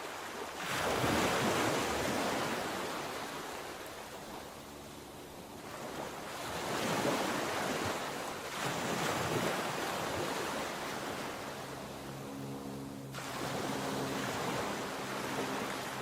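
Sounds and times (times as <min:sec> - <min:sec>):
waves breaking: 0:00.0 - 0:16.0.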